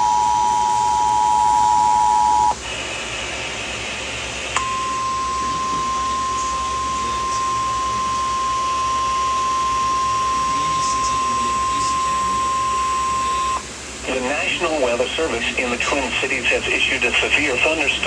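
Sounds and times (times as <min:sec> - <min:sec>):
radio hiss: 0:02.2 - 0:18.0.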